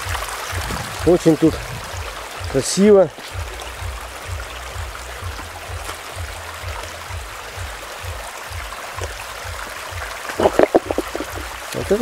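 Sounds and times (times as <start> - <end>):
stream trickling over stones: 0.0 - 12.0.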